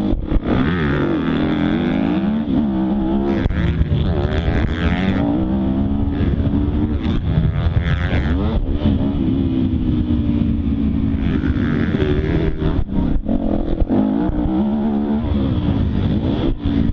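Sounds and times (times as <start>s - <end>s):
dirt bike engine revving: 0.0s - 16.9s.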